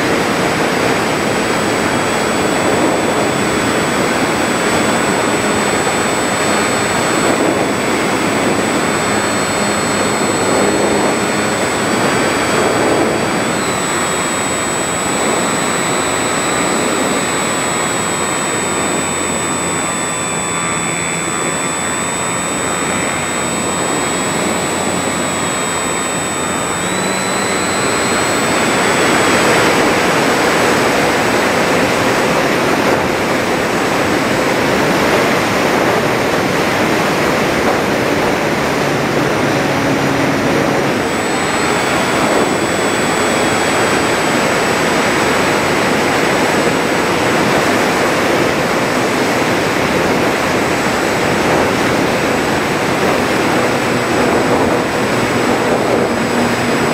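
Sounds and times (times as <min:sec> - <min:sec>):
electric motor and propeller whine: 0:00.0 - 0:56.9.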